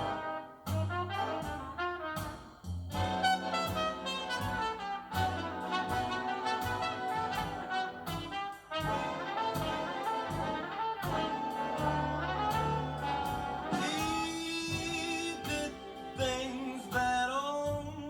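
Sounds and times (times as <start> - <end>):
bass line: 0.0 - 18.0
brass horn section: 0.0 - 18.0
drum beat: 0.0 - 18.0.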